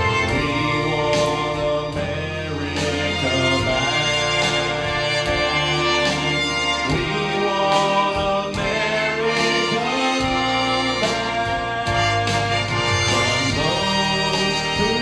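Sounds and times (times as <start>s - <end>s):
bass line: 0.0s - 15.0s
instrumental backing track: 0.0s - 15.0s
sustained chords: 0.0s - 15.0s.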